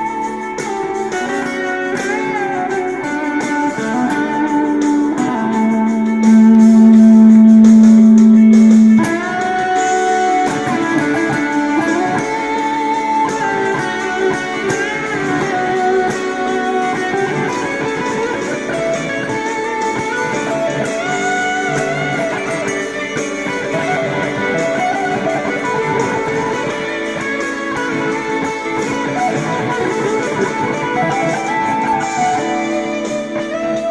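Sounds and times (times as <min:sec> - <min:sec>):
overdriven electric guitar lead: 0:00.0 - 0:33.9.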